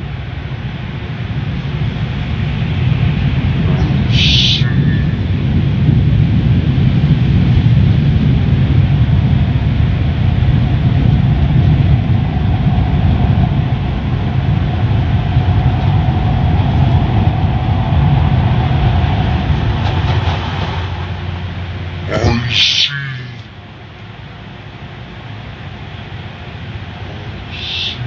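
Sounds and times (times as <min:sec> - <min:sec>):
car wash machinery rumbling: 0:00.0 - 0:28.0.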